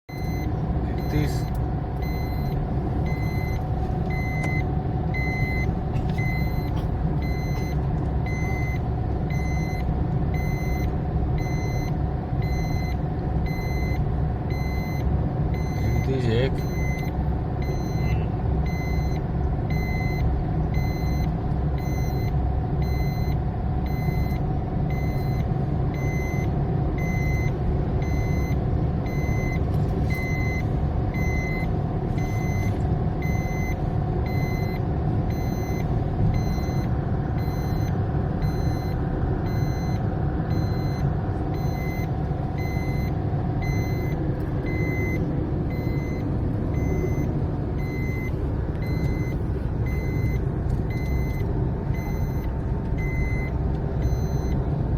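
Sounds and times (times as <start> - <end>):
car engine and road rumble: 0.1 - 54.9
dashboard warning chime beeping: 0.1 - 54.9.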